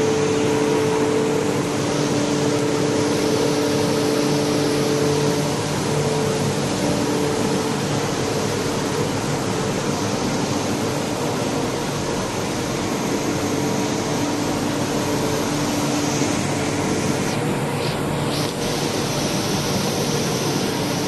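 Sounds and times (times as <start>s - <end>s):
vacuum pump running: 0.0s - 21.0s.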